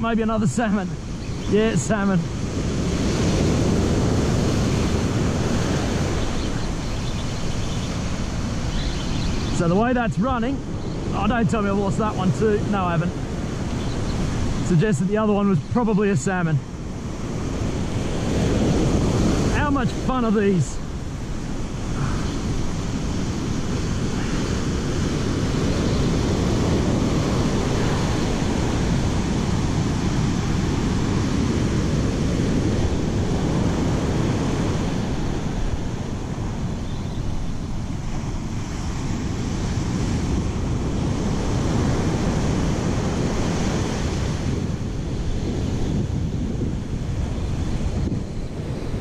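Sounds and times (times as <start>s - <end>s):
surf breaking on beach: 0.0s - 49.0s
wind buffeting microphone: 0.0s - 49.0s.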